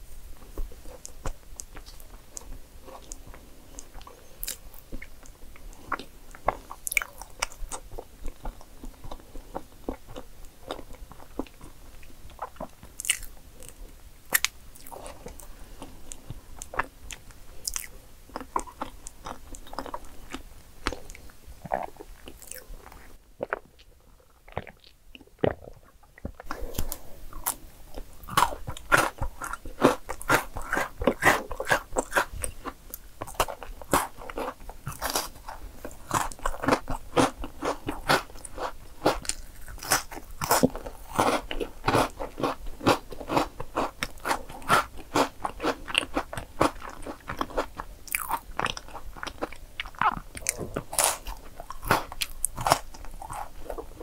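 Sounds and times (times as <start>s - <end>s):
chewing cake: 0.6s - 54.0s.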